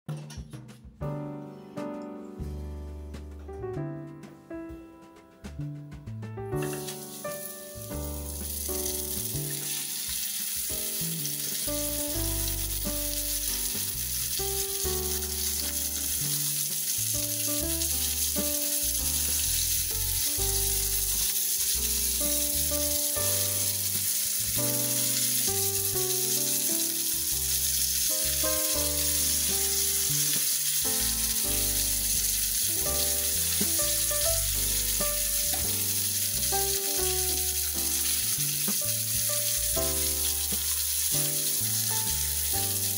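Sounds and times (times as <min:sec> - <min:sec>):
fish sizzling in hot oil: 0:06.6 - 0:42.9.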